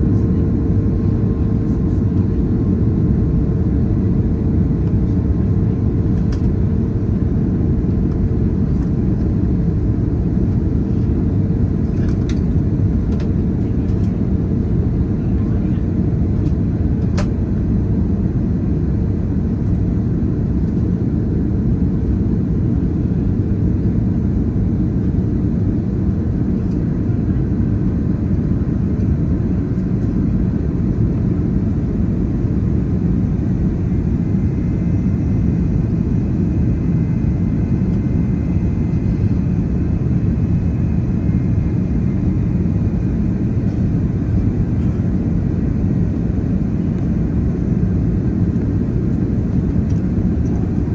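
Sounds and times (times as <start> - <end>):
airliner rumble in flight: 0.0 - 50.9.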